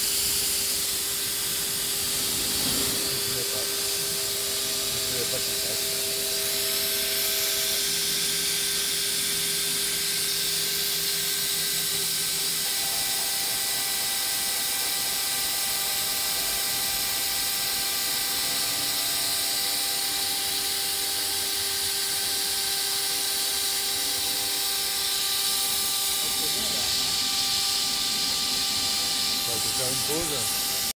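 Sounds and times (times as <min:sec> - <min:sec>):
machine whining tones: 0:00.0 - 0:30.9
router cutter hissing: 0:00.0 - 0:30.9.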